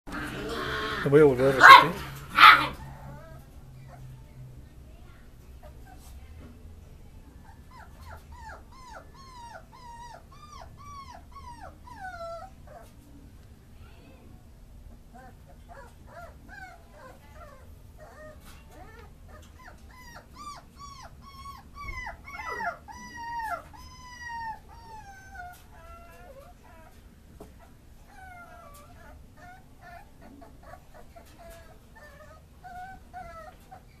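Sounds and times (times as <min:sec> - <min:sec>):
puppy whining: 0:00.1 - 0:04.2, 0:07.4 - 0:13.0, 0:15.1 - 0:34.0.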